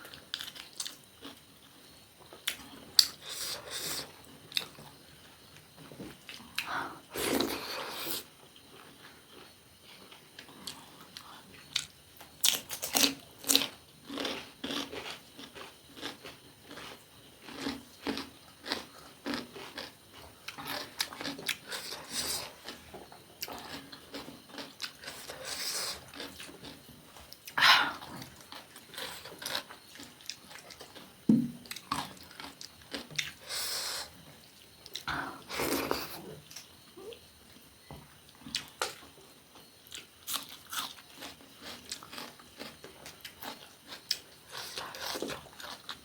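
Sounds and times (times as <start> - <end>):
person chewing food: 6.3 - 37.2, 38.3 - 46.0.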